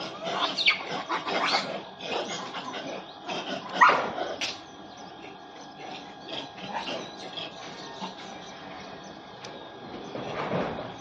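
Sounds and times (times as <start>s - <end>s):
dogs barking and yelping: 0.0s - 11.0s.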